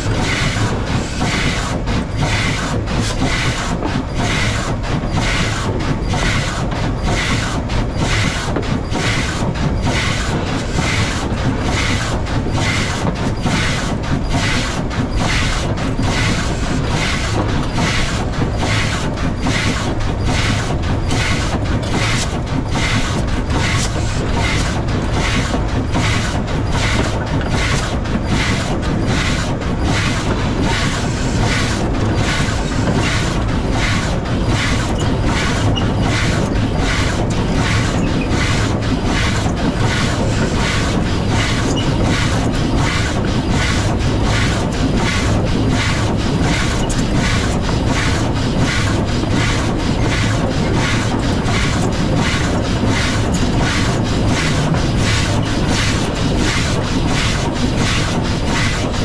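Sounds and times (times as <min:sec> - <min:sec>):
steam locomotive beats: 0:00.0 - 0:59.0.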